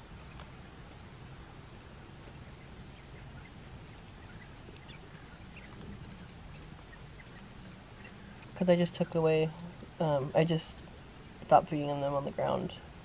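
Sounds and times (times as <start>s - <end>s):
quail chicks peeping: 0.0s - 12.8s
low background hum: 0.0s - 13.0s.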